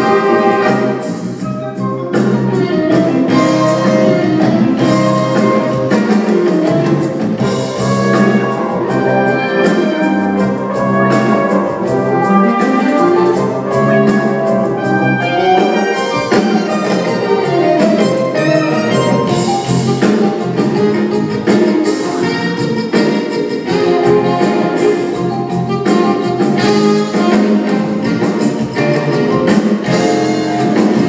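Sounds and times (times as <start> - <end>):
orchestral music with brass: 0.0 - 31.0.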